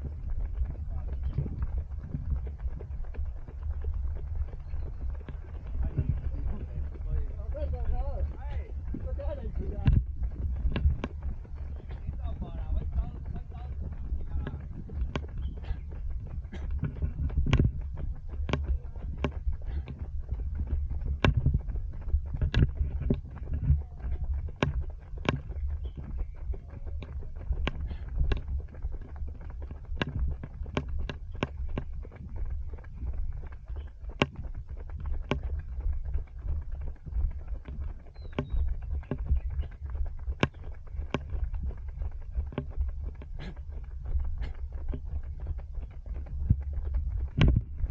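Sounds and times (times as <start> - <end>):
camera jostling rumble: 0.0 - 47.9
running footsteps on pavement: 0.0 - 47.9
wind on microphone: 0.0 - 47.9.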